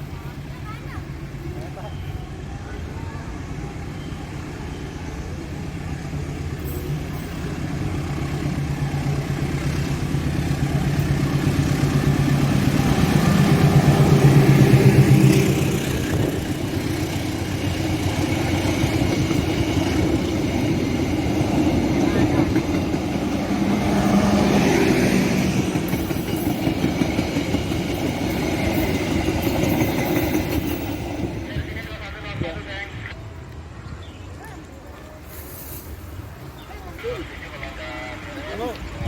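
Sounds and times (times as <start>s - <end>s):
train passing close by: 0.0s - 34.4s.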